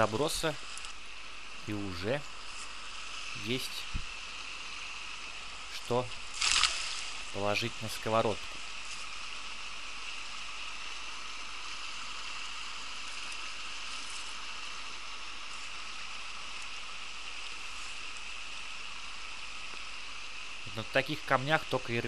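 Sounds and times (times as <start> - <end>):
river babbling over stones: 0.1 - 20.6.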